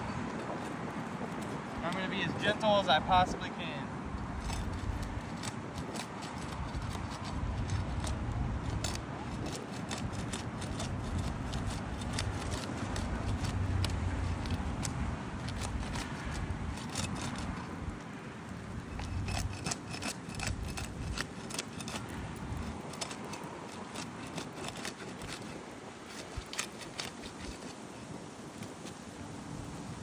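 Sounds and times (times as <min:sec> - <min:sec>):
tool scraping roof shingles: 0:00.0 - 0:29.3.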